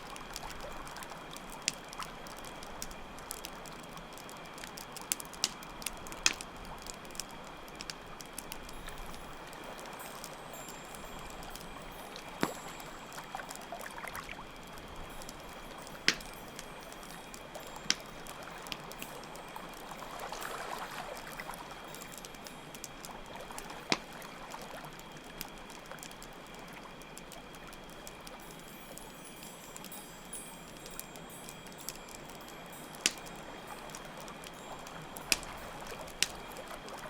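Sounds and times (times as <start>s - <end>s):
crickets chirring: 0.0s - 37.0s
wood fire crackling: 0.0s - 37.0s.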